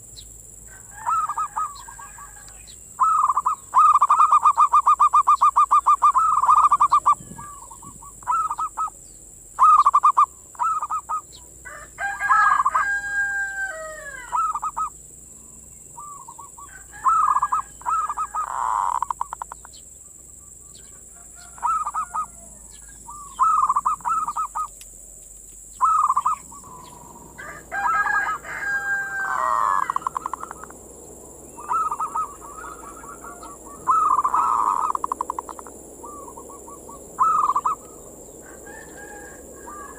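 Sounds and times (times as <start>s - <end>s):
dove cooing: 0.7s - 9.0s, 9.6s - 19.8s, 20.7s - 24.8s, 25.8s - 39.9s
bird call with falling pitch: 0.9s - 9.0s, 9.6s - 11.4s, 12.0s - 14.9s, 16.0s - 24.8s, 25.7s - 30.8s, 31.4s - 39.9s.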